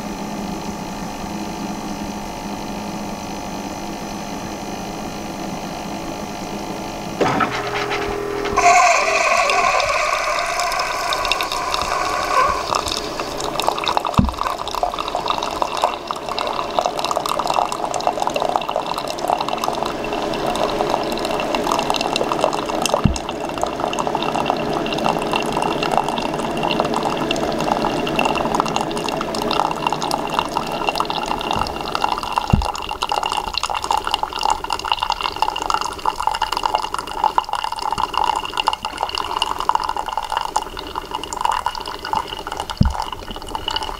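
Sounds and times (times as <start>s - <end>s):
coffee maker pump hum: 0.0s - 43.9s
coffee pouring into mug: 7.3s - 43.9s.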